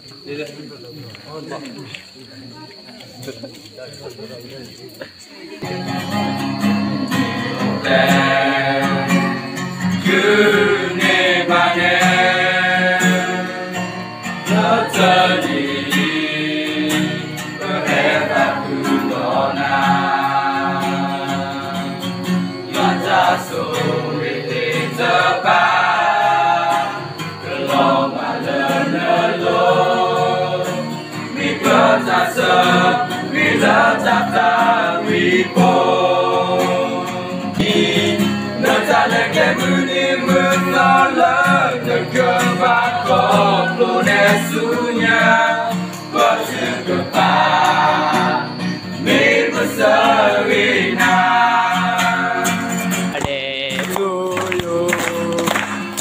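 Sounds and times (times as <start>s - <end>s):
strummed acoustic guitar: 5.6s - 56.0s
young men singing in chorus: 7.1s - 56.0s.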